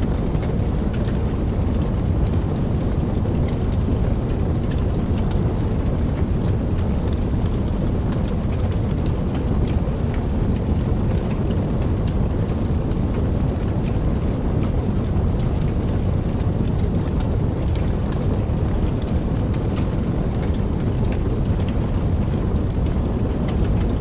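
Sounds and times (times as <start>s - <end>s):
campfire flames rumbling: 0.0s - 24.0s
fire crackling and popping: 0.0s - 24.0s.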